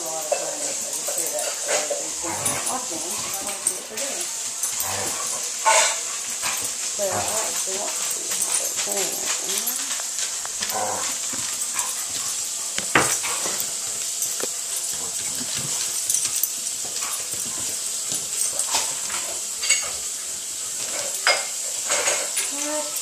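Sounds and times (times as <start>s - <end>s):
dogs scuffling: 0.0s - 23.0s.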